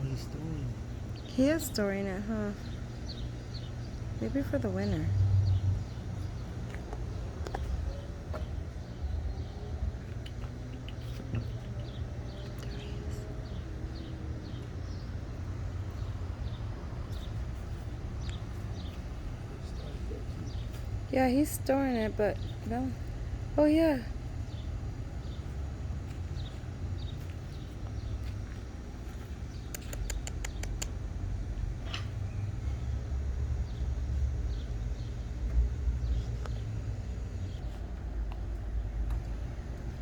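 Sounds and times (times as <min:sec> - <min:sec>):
low outdoor rumble: 0:00.0 - 0:40.0
small birds chirping: 0:00.0 - 0:40.0.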